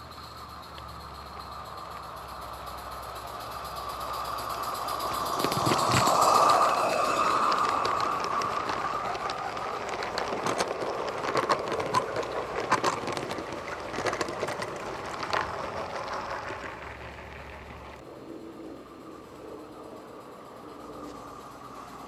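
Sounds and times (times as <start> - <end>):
wheels clicking over track: 0.0 - 18.0
miniature steam train passing: 0.0 - 22.0.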